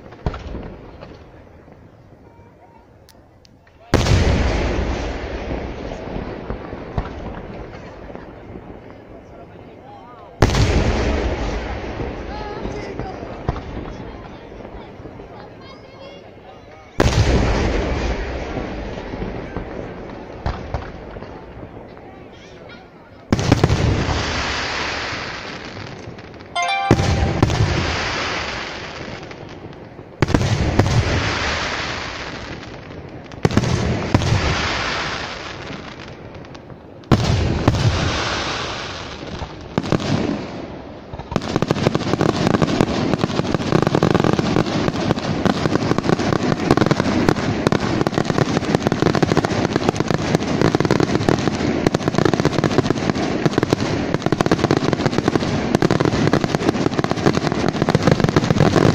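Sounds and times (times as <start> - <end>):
fireworks booming: 0.0 - 2.4, 3.8 - 9.0, 10.4 - 15.3, 17.0 - 22.1, 23.3 - 58.9
fireworks crackling bangs: 0.0 - 2.8, 3.6 - 58.9.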